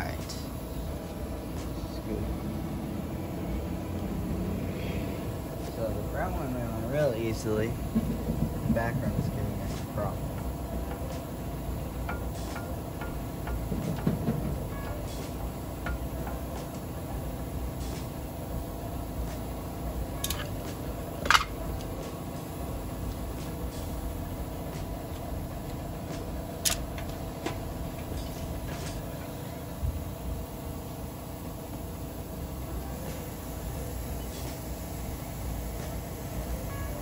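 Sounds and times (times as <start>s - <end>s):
steady background drone: 0.0s - 37.0s.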